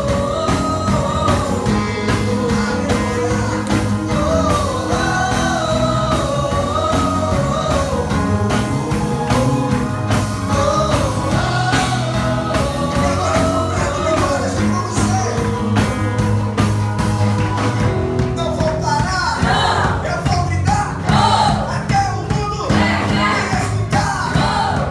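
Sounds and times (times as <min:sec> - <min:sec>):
bass: 0:00.0 - 0:24.9
rock song with sung vocal: 0:00.0 - 0:24.9
steady drum beat: 0:00.0 - 0:24.9.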